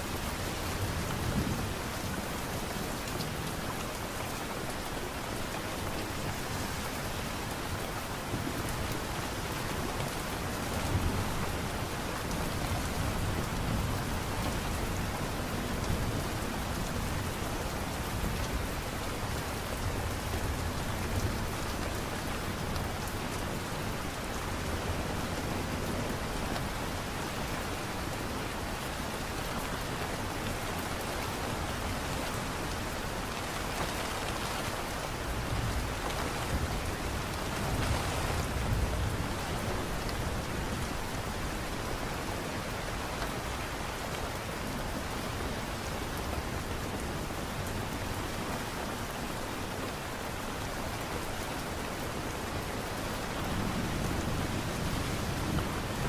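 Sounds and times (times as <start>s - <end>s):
light rain hiss: 0.0s - 56.0s.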